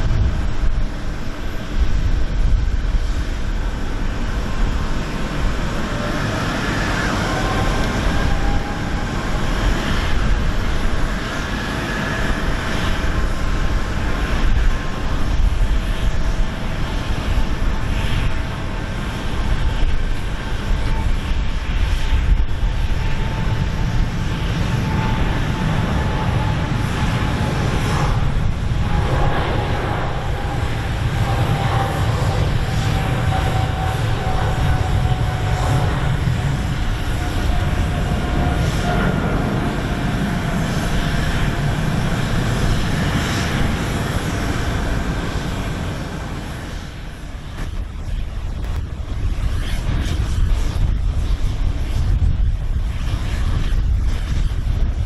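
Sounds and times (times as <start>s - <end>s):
jet engines rumbling and whining: 0.0s - 55.0s.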